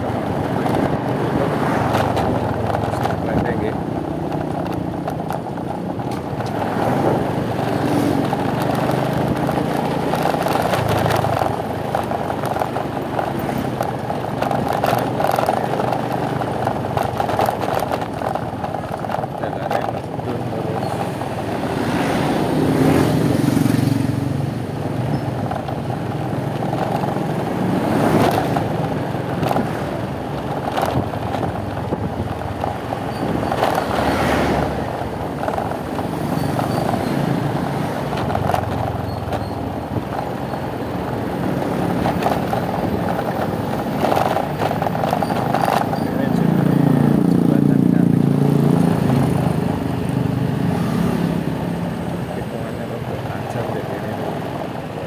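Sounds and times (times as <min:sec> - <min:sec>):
motorcycle engine running: 0:00.0 - 0:55.0
road and wind noise: 0:00.0 - 0:55.0
traffic passing: 0:00.0 - 0:55.0.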